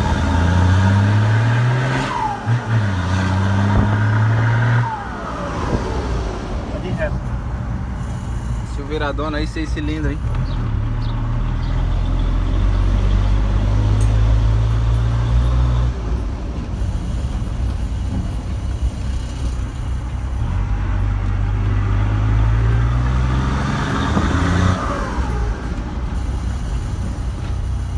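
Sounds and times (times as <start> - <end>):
truck diesel engine droning: 0.0 - 27.9.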